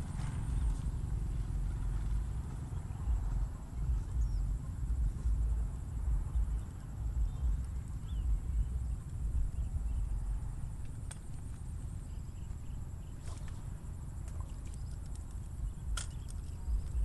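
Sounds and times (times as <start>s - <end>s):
wind buffeting microphone: 0.0s - 17.0s
faint bird chirps: 0.1s - 17.0s.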